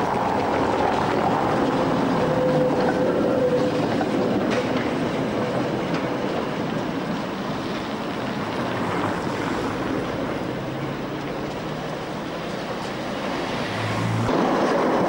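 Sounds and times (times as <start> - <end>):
street traffic passing: 0.0 - 15.0
tram wheels rumbling on rails: 0.0 - 15.0.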